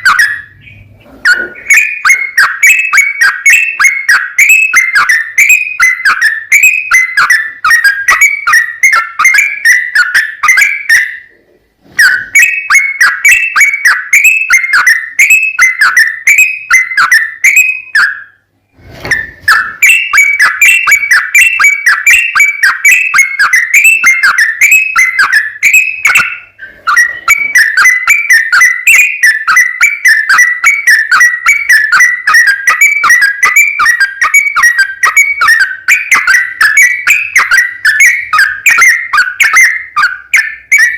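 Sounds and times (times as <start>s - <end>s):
bird singing whistled notes: 0.0s - 11.4s, 12.0s - 40.9s.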